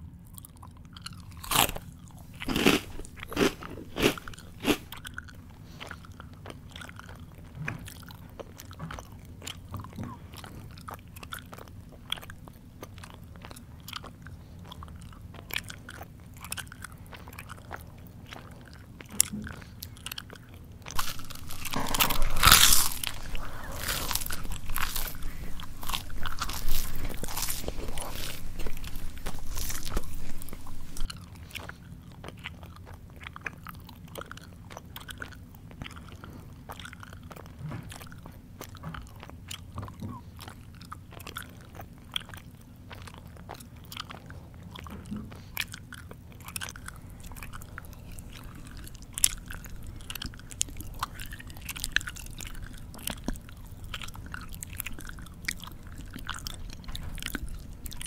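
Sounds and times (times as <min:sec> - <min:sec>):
mouth chewing crunchy food: 0:00.0 - 0:58.0.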